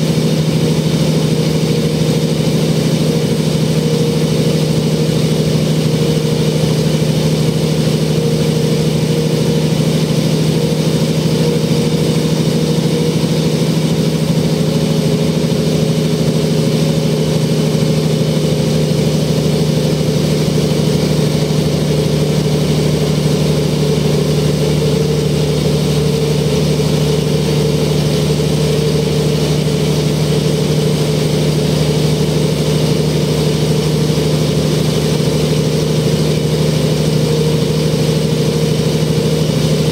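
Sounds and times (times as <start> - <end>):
bus diesel engine humming: 0.0 - 39.9.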